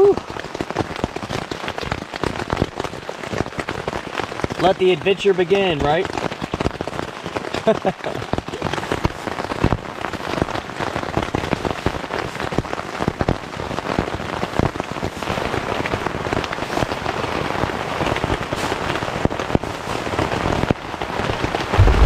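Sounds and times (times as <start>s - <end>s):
heavy rain on tent fabric: 0.0s - 22.0s.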